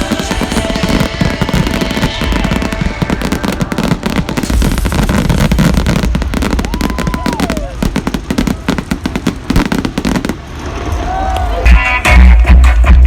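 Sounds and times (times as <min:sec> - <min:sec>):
low booming rumble: 0:00.0 - 0:11.3
fireworks crackling and banging: 0:00.0 - 0:12.5.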